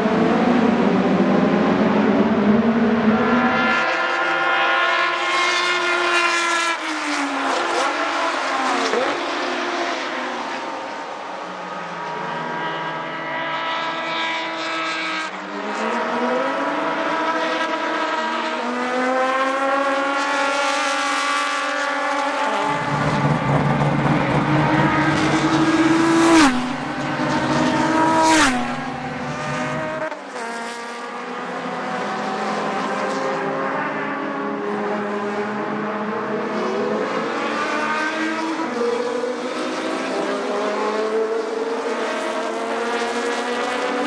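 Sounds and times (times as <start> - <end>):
race car engines at high revs: 0.0 - 44.0
race car passing close: 0.0 - 44.0.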